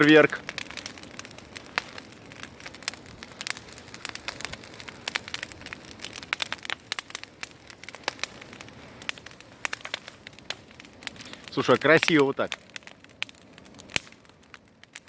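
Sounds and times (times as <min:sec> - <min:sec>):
bonfire crackling and popping: 0:00.0 - 0:15.0
low steady fire hiss: 0:00.0 - 0:15.0.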